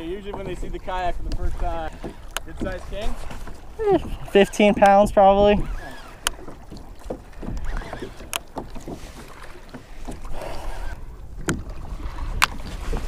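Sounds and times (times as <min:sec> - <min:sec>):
water lapping against kayak hull: 0:00.0 - 0:13.0
wind on microphone: 0:00.0 - 0:13.0.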